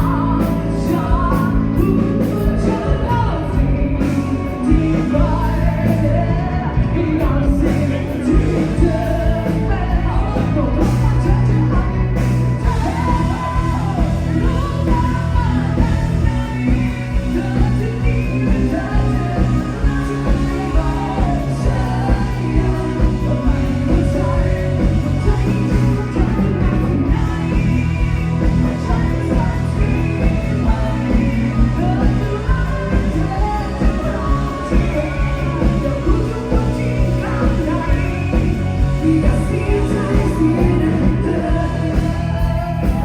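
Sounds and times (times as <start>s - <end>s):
bass: 0.0s - 43.0s
live band playing amplified music: 0.0s - 43.0s
person singing: 0.0s - 43.0s
steady drum beat: 0.0s - 43.0s.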